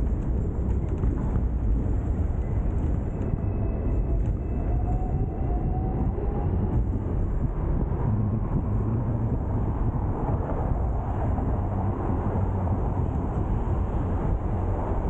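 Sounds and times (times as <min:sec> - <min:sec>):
faint rising whine: 0:00.0 - 0:15.0
tram rumbling on tracks: 0:00.0 - 0:15.0.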